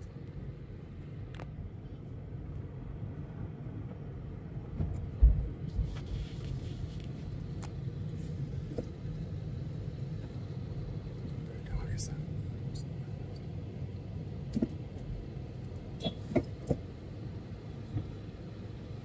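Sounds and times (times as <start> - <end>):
car interior engine and tyre rumble: 0.0 - 19.0.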